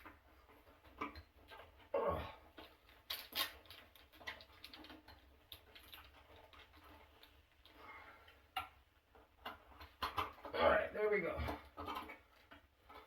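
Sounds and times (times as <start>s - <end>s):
small parts and hand tool clicking: 0.0s - 10.6s, 11.3s - 13.0s.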